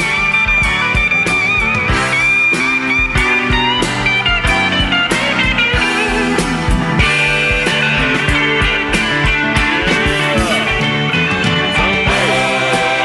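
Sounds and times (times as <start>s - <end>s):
bass guitar: 0.0s - 13.0s
drum beat: 0.0s - 13.0s.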